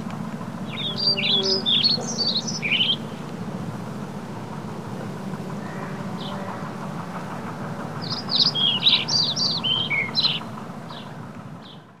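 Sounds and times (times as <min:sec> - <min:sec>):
low outdoor rumble: 0:00.0 - 0:12.0
birds chirping: 0:00.5 - 0:04.2, 0:05.0 - 0:12.0.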